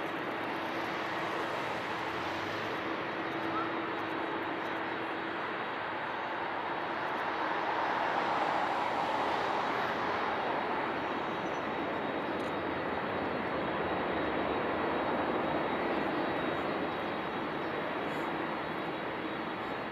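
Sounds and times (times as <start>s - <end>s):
jet engines of landing plane: 0.0s - 19.9s.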